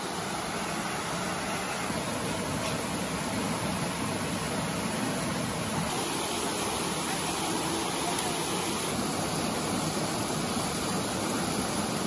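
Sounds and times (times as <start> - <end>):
creek water over rocks: 0.0 - 12.0.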